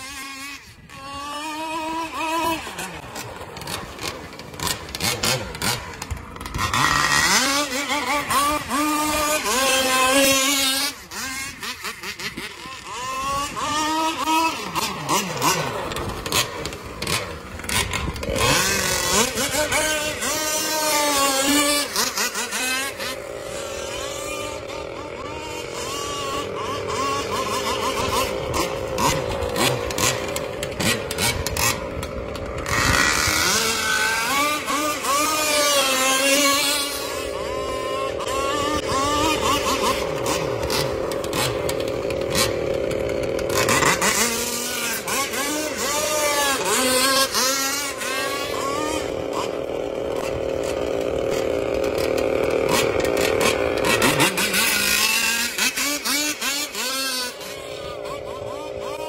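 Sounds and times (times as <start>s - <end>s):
speedboat two-stroke engine: 0.0s - 59.0s.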